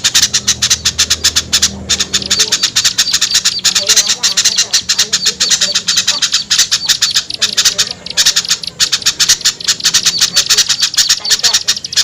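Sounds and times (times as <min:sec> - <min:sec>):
small birds chattering: 0:00.0 - 0:12.0.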